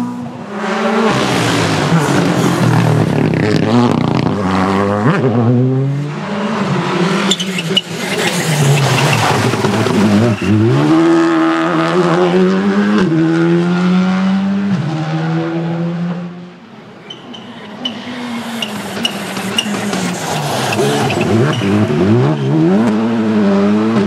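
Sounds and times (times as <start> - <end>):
rally car engine revving hard: 0.0 - 16.4, 17.9 - 24.0.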